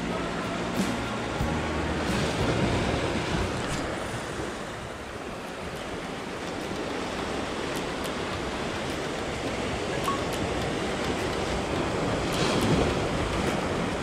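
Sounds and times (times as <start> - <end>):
wind buffeting microphone: 2.0 - 14.0
waves breaking against rocks: 2.1 - 14.0.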